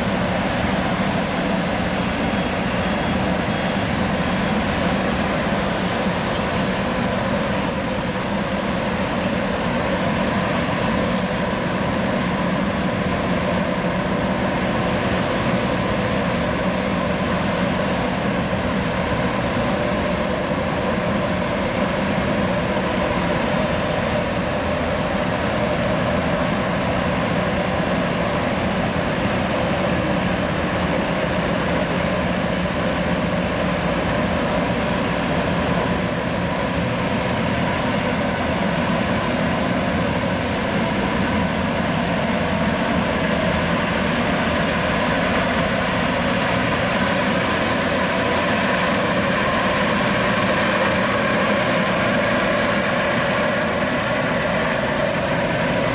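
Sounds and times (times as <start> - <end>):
gas turbines whining: 0.0 - 55.9.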